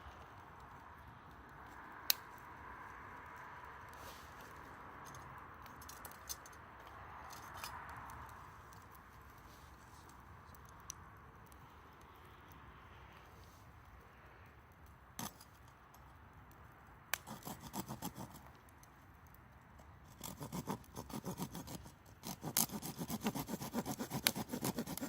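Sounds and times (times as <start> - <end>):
campfire crackling: 0.0 - 7.2, 7.9 - 25.0.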